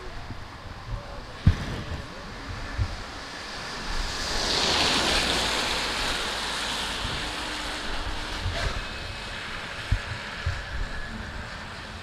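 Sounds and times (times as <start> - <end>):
rain hissing on street: 0.0 - 10.5
wind buffeting microphone: 0.0 - 12.0
car tyres swishing on wet road: 1.3 - 12.0.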